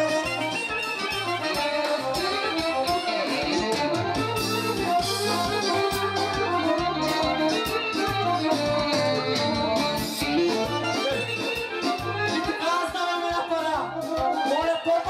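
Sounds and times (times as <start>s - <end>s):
dance music: 0.0s - 15.0s.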